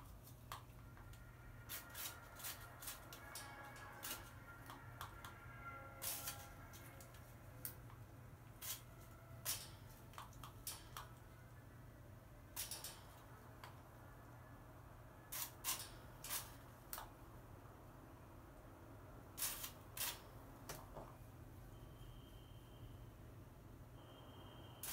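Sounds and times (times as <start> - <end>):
faint room hum: 0.0 - 24.9.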